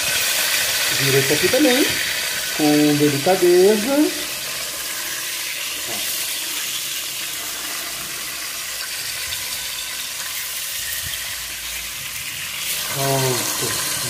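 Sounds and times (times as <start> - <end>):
fish frying in oil: 0.0 - 14.0.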